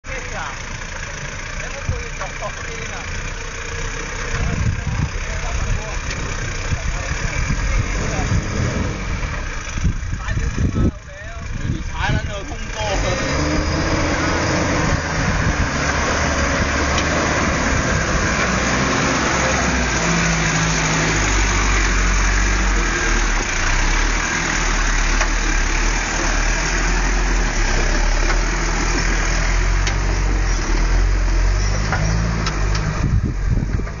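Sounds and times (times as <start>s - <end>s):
truck engine straining at low revs: 0.1s - 34.0s.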